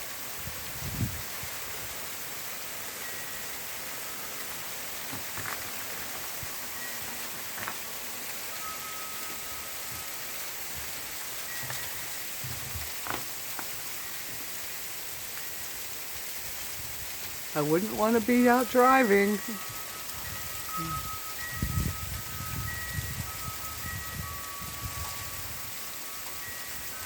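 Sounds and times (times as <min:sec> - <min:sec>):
freezing rain hissing: 0:00.0 - 0:27.0.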